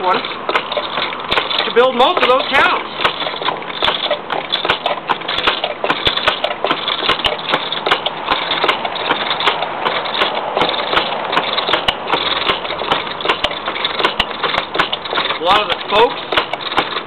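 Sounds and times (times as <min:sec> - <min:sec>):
sharp clicks: 0:00.0 - 0:17.0
tool scraping spinning wood: 0:00.0 - 0:17.0
treadle lathe running: 0:00.0 - 0:17.0.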